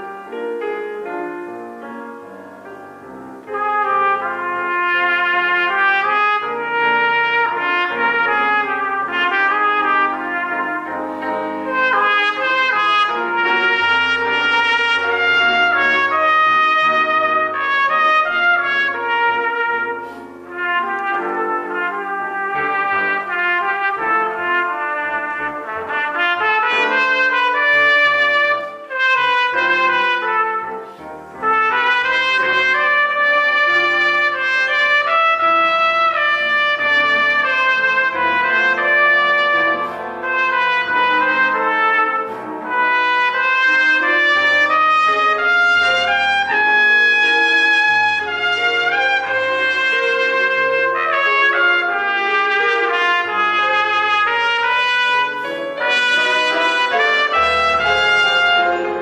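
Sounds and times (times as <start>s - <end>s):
piano accompaniment: 0.0s - 59.0s
trumpet melody: 0.0s - 59.0s.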